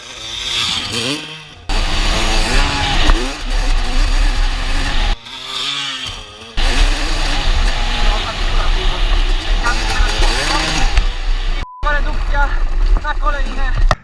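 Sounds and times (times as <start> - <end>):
motocross engine revving: 0.0 - 13.8.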